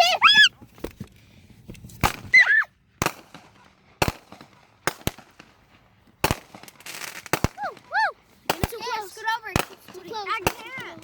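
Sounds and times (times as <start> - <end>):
fireworks bangs: 2.0 - 11.0.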